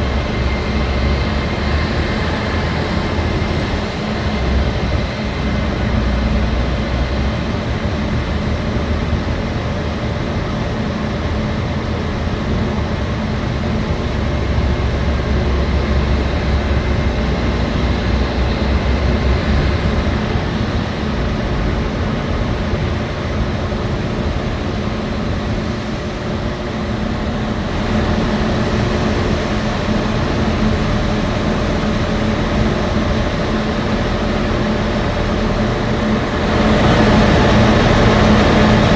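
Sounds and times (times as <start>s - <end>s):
train engine humming and rumbling: 0.0s - 38.9s.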